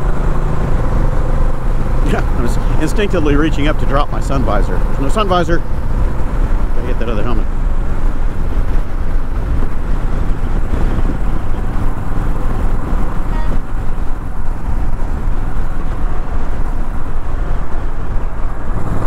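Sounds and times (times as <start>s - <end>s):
motorcycle engine and tyres: 0.0s - 19.0s
wind rushing over microphone: 0.0s - 19.0s.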